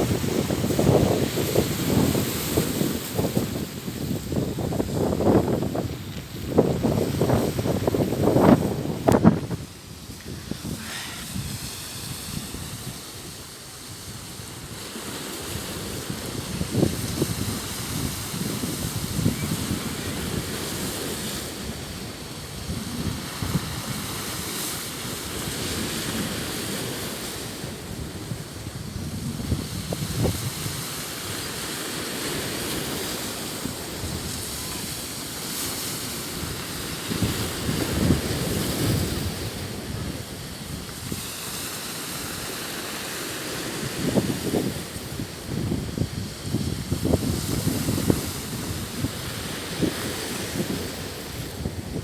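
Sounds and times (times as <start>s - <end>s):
wind buffeting microphone: 0.0s - 42.6s, 43.5s - 52.0s
sea waves washing on shore: 0.0s - 52.0s.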